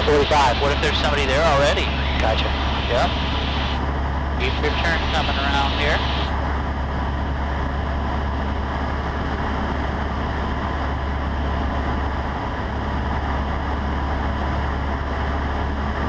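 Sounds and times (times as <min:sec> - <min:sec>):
small plane engine drone: 0:00.0 - 0:16.0.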